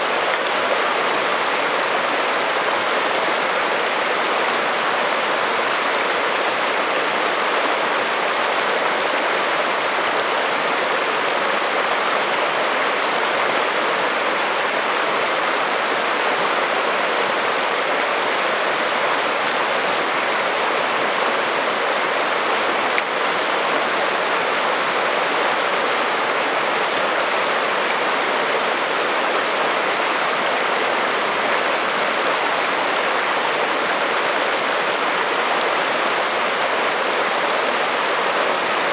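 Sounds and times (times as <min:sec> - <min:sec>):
creek flowing over stones: 0:00.0 - 0:38.9.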